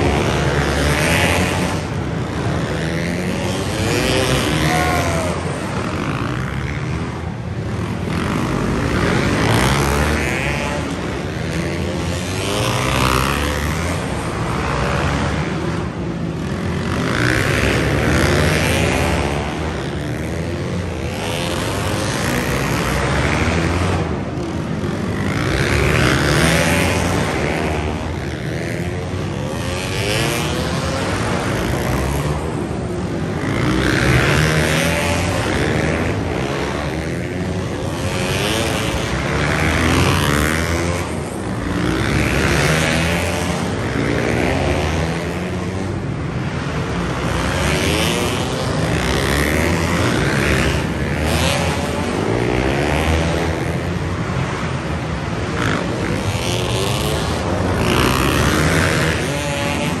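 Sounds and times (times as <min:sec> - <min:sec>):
motorcycle engines revving: 0:00.0 - 1:00.0.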